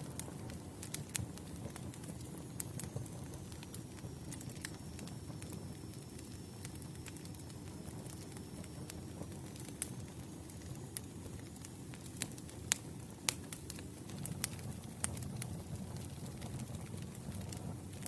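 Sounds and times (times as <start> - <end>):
campfire flames rumbling: 0.0 - 18.0
logs crackling and popping: 0.0 - 18.0.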